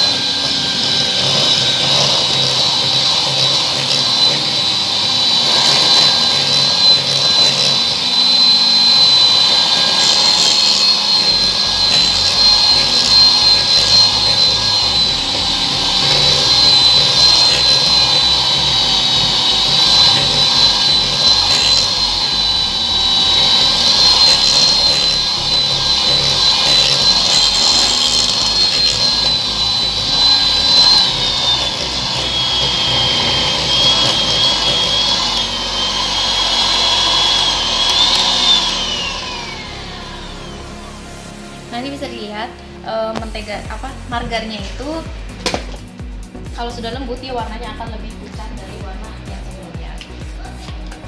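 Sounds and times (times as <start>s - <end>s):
electric hand mixer running: 0.0s - 51.0s.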